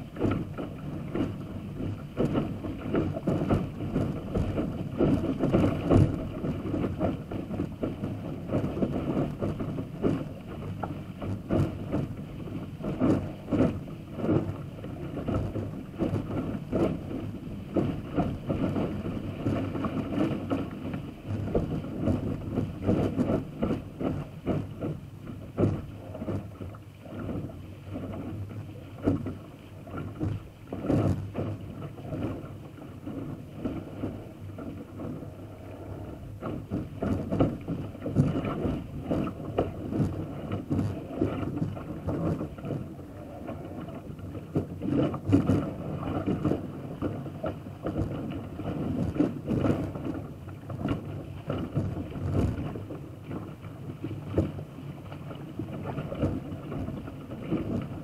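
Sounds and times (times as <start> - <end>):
water splashing along hull: 0.0 - 58.0
waves knocking against bow: 0.0 - 58.0.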